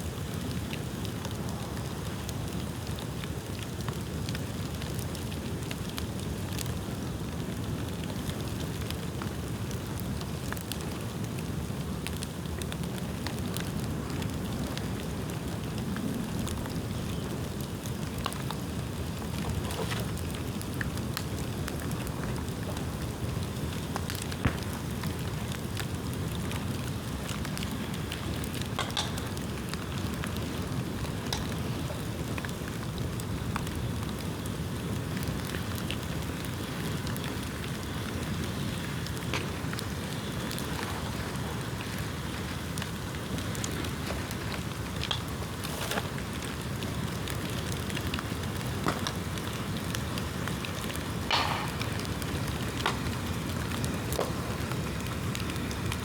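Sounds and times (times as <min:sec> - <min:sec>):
fire crackling and popping: 0:00.0 - 0:56.0
flames rushing: 0:00.1 - 0:56.0.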